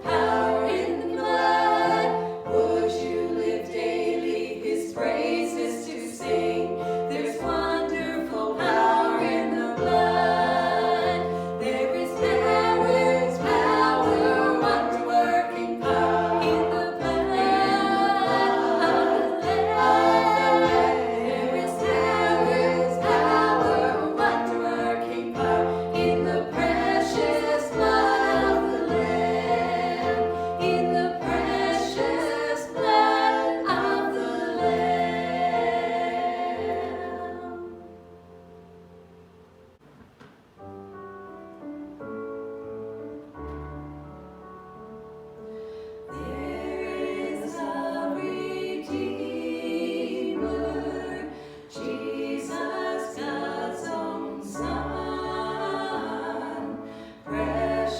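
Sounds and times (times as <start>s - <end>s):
group singing: 0.0s - 38.1s, 46.1s - 57.9s.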